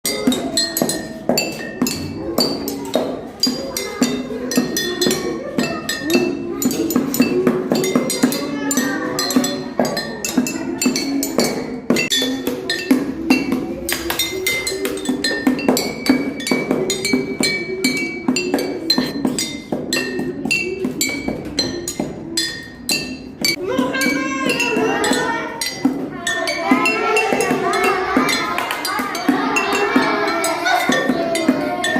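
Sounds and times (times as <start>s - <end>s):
rapid clinking pitched strikes: 0.0s - 31.9s.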